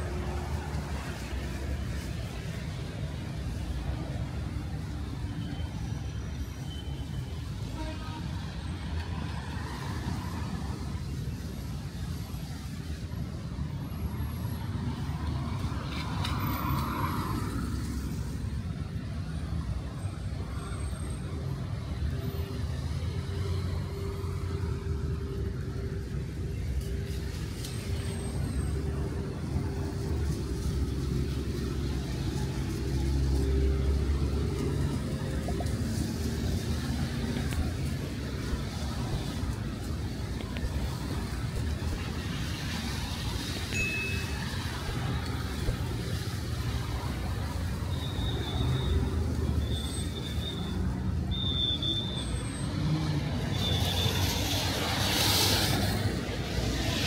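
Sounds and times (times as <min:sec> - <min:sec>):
traffic engines rumbling: 0:00.0 - 0:57.0.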